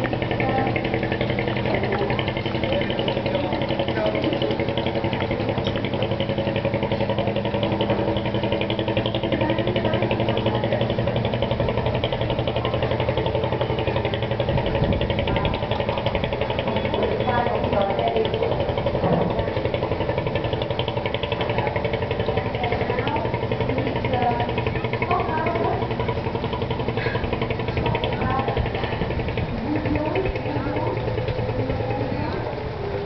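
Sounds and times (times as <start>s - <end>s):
engine idling: 0.0s - 33.0s
faint voices: 0.0s - 33.0s.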